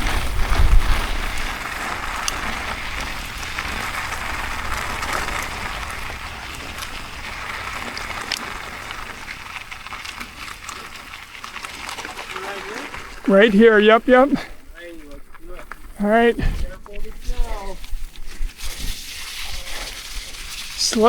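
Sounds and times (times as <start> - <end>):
bike clicks and rattles: 0.0 - 16.0, 16.6 - 21.0
bike tyres hissing on dirt: 0.0 - 21.0.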